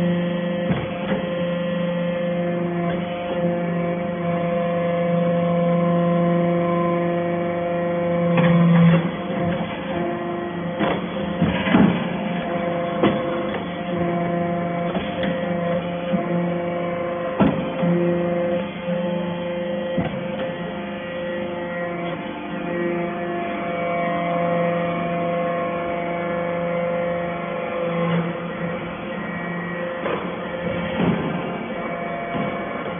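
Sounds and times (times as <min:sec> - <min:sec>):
hydraulic baler humming: 0:00.0 - 0:32.9.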